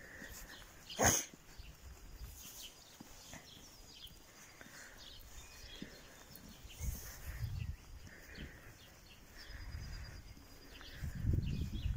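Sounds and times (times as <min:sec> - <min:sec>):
small birds chirping and singing: 0:00.0 - 0:11.9.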